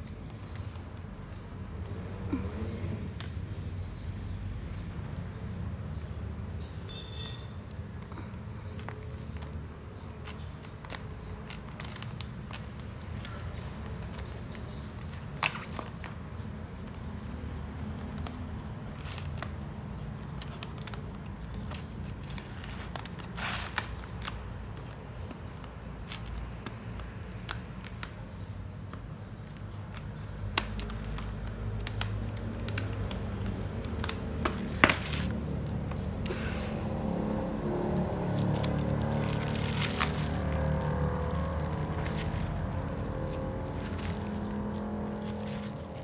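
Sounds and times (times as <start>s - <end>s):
packaging clicking and crinkling: 0.0s - 2.2s, 6.9s - 36.4s, 37.8s - 46.0s.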